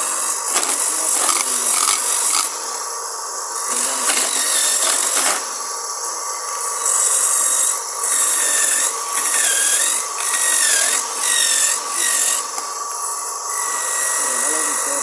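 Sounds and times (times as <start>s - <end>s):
electric grater rasping coconut: 0.0s - 15.0s
motor whine: 0.0s - 15.0s.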